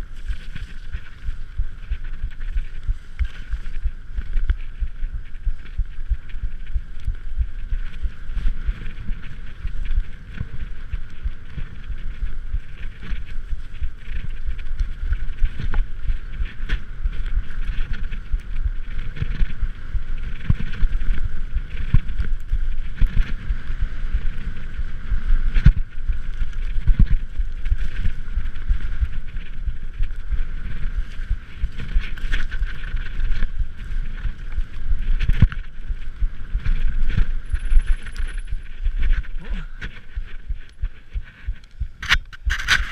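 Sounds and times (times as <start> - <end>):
bike rolling over rough ground: 0.0 - 42.9.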